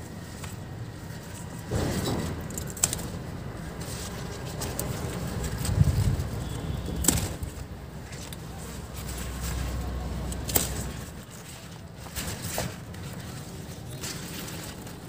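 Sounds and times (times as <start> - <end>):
leaf stalks snapping: 0.4 - 15.0.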